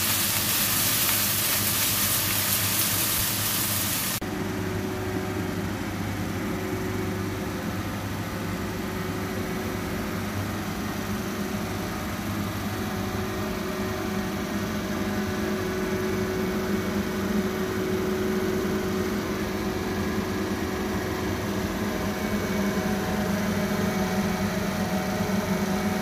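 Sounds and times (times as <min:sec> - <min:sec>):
fan humming and whooshing: 0:00.0 - 0:26.0.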